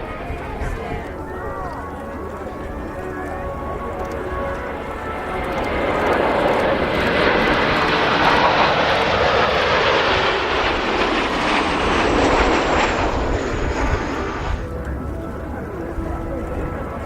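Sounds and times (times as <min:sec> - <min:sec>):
jet engine rush: 0:01.8 - 0:17.0.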